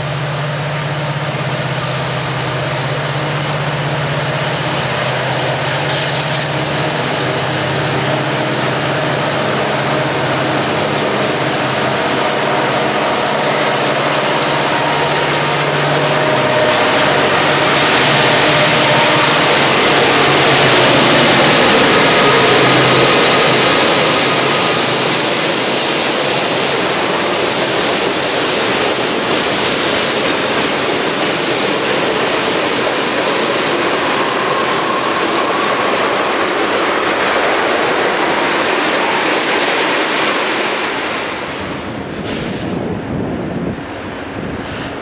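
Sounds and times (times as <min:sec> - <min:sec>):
diesel locomotive engine: 0:00.0 - 0:45.0
train wheels on rails: 0:00.0 - 0:45.0.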